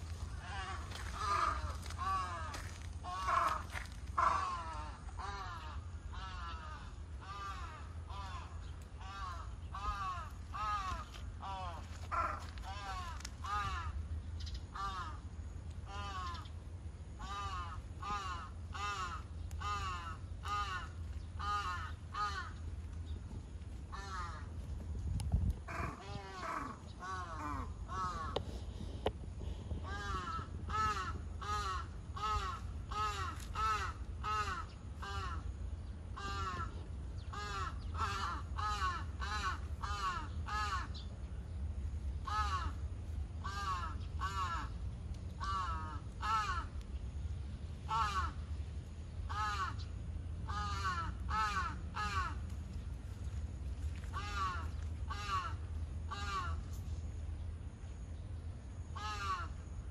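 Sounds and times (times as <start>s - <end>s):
steady low rumble: 0.0s - 59.9s.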